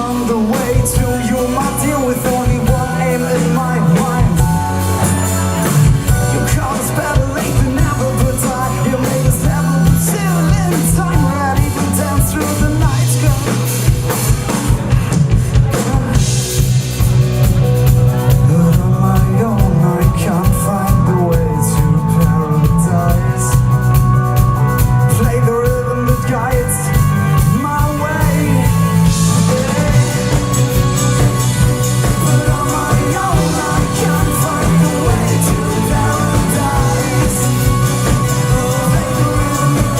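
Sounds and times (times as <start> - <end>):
drum kit: 0.0 - 39.9
live rock band playing: 0.0 - 39.9
steady bass: 0.0 - 39.9
wavering lead melody: 0.0 - 39.9.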